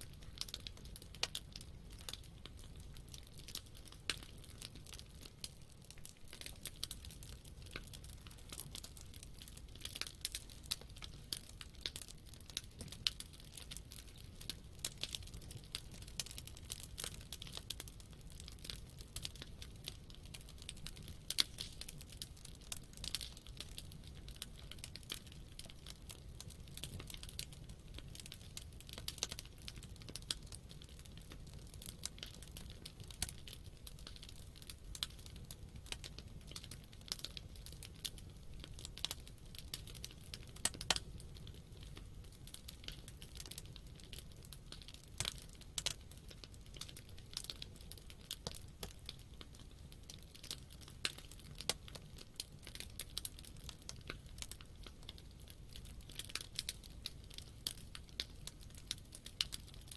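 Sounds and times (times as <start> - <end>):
campfire wood crackling: 0.0 - 59.9
low steady rumble of fire: 0.0 - 59.9.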